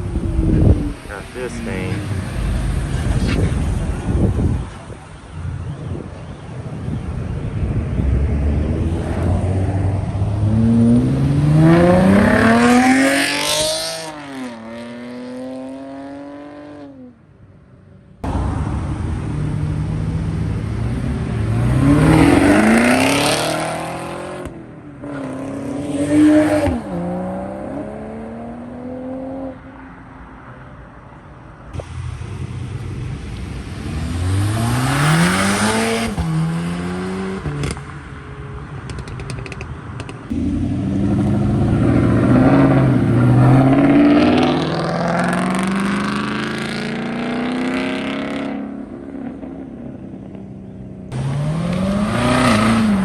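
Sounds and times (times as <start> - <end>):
car engines accelerating hard: 0.0 - 16.9, 18.2 - 29.7, 31.7 - 38.2, 38.8 - 53.0.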